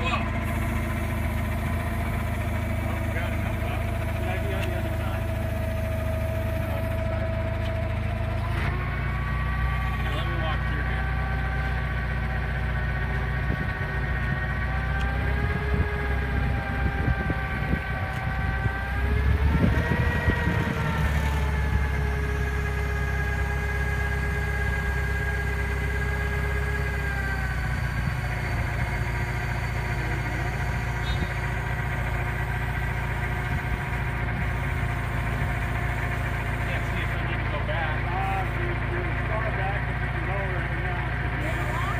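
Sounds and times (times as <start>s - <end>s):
forklift engine idling: 0.0s - 41.9s.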